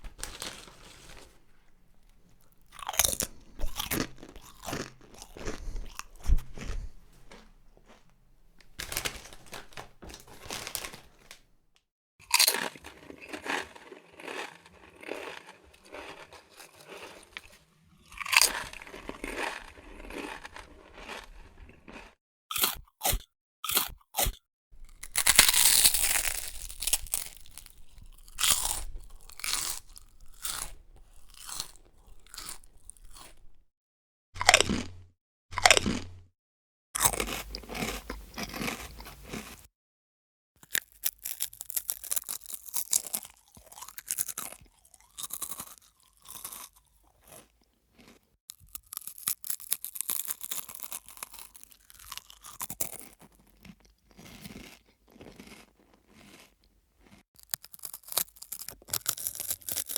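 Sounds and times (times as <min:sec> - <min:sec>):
person chewing crunchy snacks: 0:00.1 - 0:11.5, 0:12.2 - 0:33.6, 0:34.4 - 0:36.2, 0:37.0 - 0:39.7, 0:40.6 - 0:59.9.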